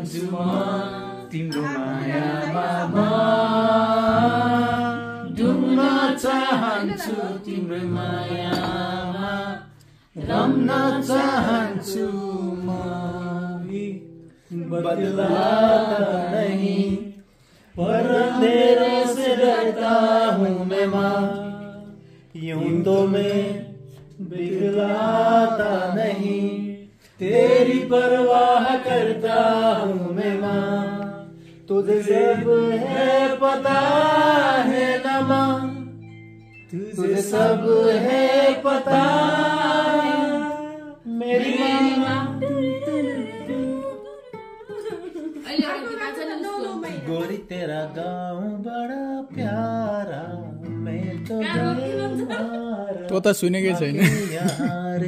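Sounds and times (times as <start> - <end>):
people singing together: 0.0 - 36.0, 36.7 - 53.1
acoustic guitar low notes: 0.0 - 53.4, 54.1 - 55.0.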